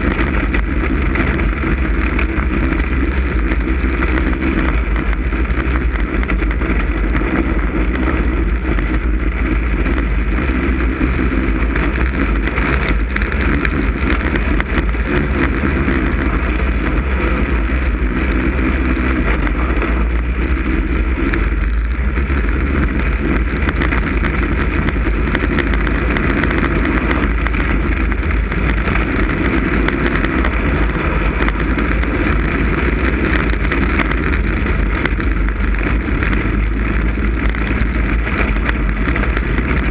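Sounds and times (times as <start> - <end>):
snowmobile engine running: 0.0 - 39.9
wind noise on microphone: 0.0 - 39.9.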